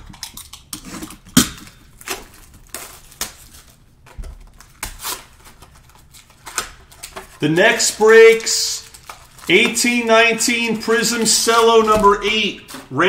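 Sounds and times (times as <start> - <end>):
card packs crinkling and clicking: 0.0 - 13.0.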